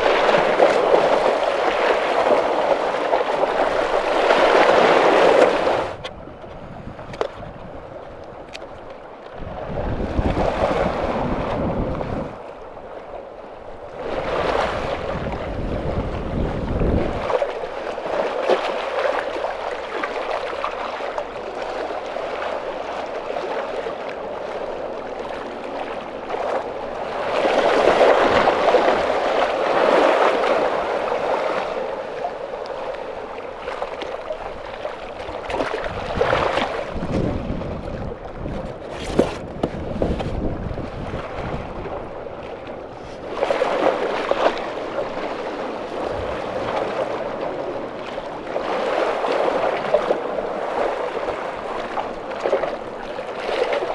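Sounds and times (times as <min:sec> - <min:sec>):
waves splashing against boulders: 0:00.0 - 0:53.9.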